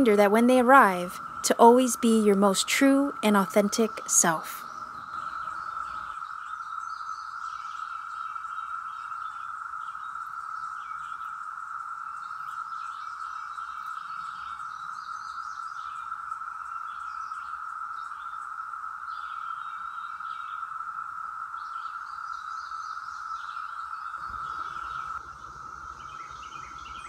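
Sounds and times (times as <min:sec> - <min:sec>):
cicadas humming: 0:00.0 - 0:27.0.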